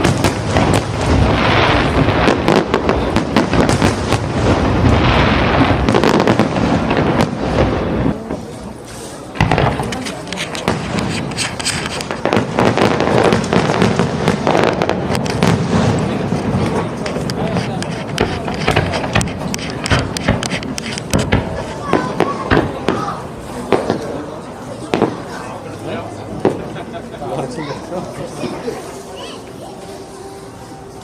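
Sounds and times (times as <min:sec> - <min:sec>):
fireworks booming and crackling: 0:00.0 - 0:28.9.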